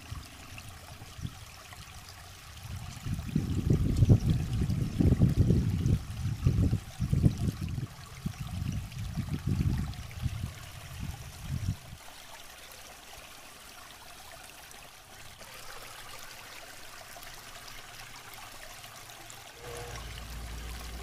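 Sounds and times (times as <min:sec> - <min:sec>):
water running over rocks: 0:00.0 - 0:21.0.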